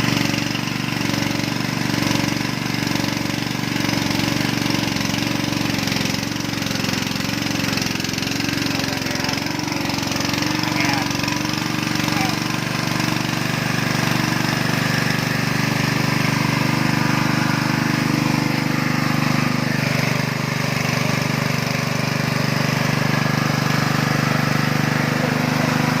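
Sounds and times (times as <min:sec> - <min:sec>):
pellet mill motor humming: 0:00.0 - 0:26.0.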